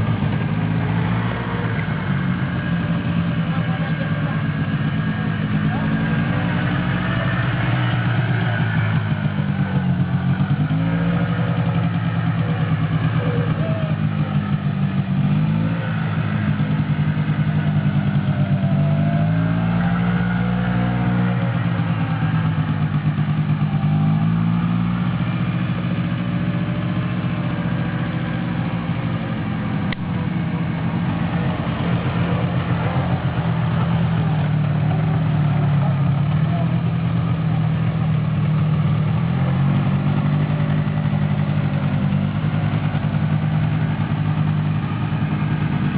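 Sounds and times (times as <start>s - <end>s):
quad bike engine revving: 0.0s - 45.9s.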